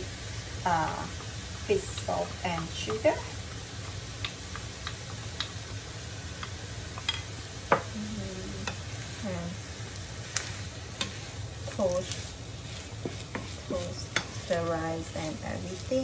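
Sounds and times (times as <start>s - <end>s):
stirring rice in frying pan: 0.0s - 7.8s, 8.6s - 16.0s
faint sizzle: 0.0s - 16.0s
low steady hum: 0.0s - 16.0s.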